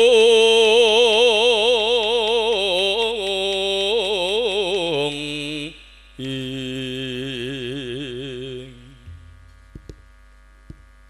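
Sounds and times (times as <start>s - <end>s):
man singing solo: 0.0s - 9.1s.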